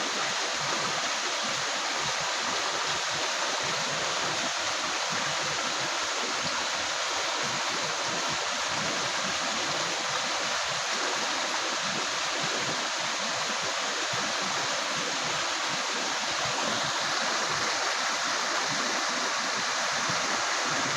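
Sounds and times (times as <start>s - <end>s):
river water rushing over rocks: 0.0s - 20.9s.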